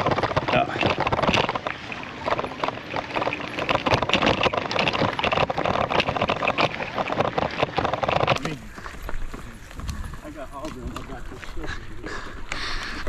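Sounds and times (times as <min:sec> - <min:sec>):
bike rattling on rough ground: 0:00.0 - 0:13.0.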